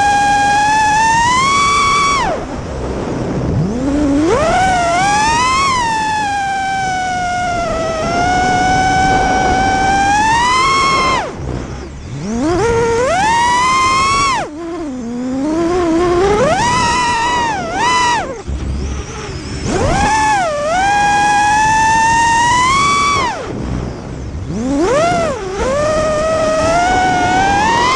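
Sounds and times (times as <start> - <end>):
quadcopter motors whining: 0.0 - 27.9.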